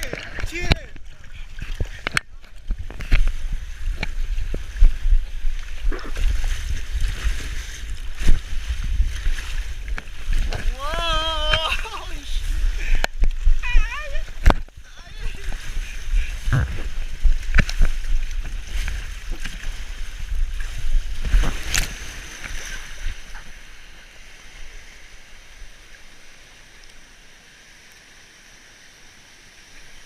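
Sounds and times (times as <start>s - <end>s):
water rushing and splashing: 0.0s - 30.0s.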